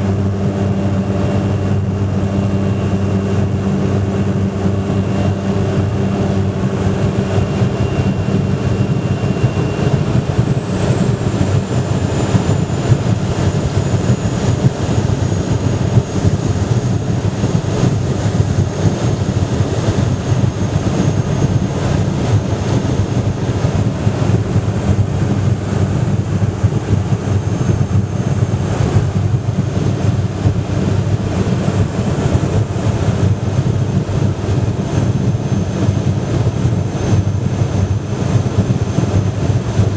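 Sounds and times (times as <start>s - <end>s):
propeller engine drone: 0.0s - 39.9s.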